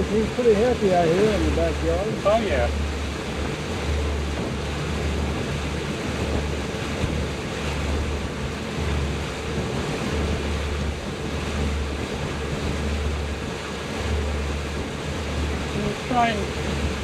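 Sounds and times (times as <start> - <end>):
motorboat engine running: 0.0 - 17.0
water washing past: 0.0 - 17.0
wind buffeting microphone: 0.0 - 17.0.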